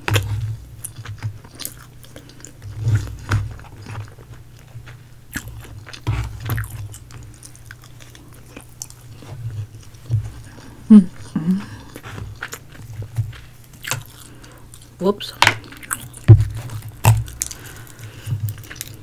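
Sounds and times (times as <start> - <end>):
person chewing food: 0.0 - 15.0, 15.6 - 19.0.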